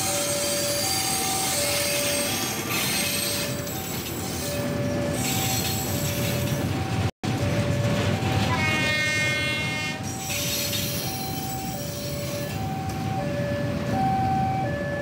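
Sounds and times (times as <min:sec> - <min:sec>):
rail wagons rolling over track: 0:00.0 - 0:14.0
level crossing alarm beeping: 0:00.0 - 0:15.0.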